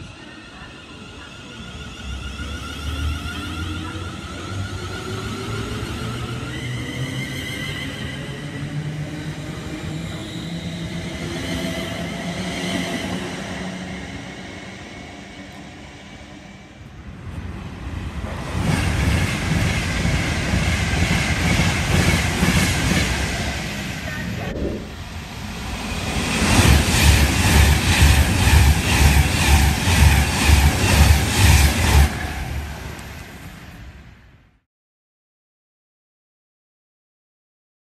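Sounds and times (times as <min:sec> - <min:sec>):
express train passing: 0:00.0 - 0:34.5.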